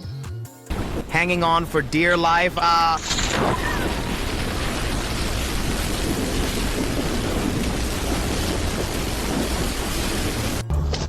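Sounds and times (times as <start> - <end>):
low rumble: 0.7 - 10.6
storm rushing hiss: 0.7 - 10.6.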